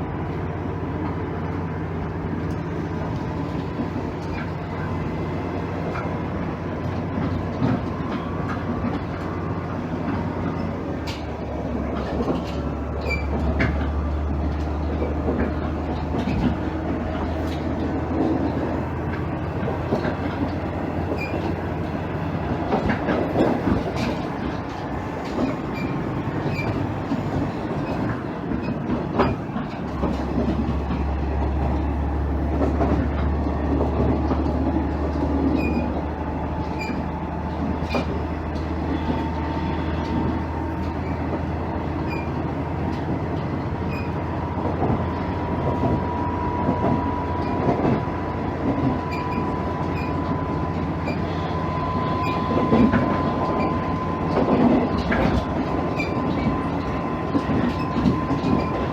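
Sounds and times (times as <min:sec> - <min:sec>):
railcar cabin running noise: 0:00.0 - 0:58.9
wheels clicking over rails: 0:00.0 - 0:58.9.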